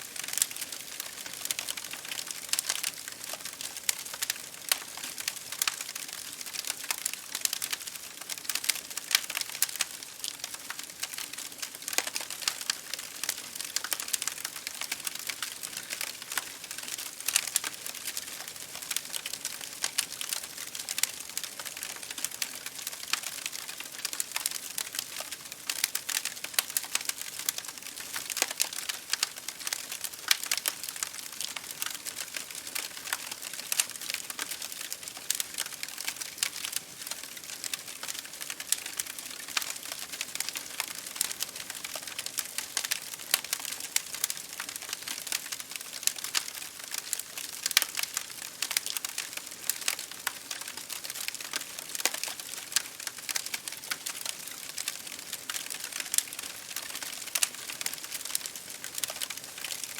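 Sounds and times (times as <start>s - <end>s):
rain against a window: 0.0s - 59.9s
wood fire crackling: 0.0s - 59.9s.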